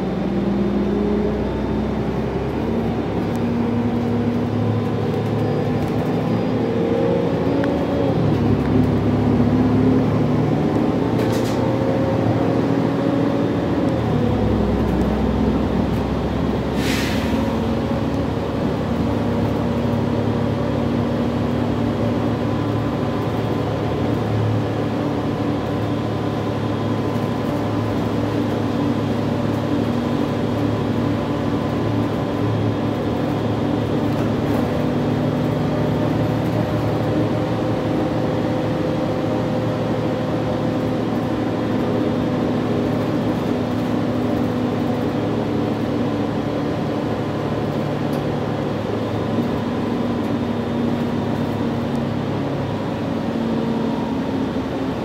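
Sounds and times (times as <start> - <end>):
bus engine and road drone: 0.0 - 55.0.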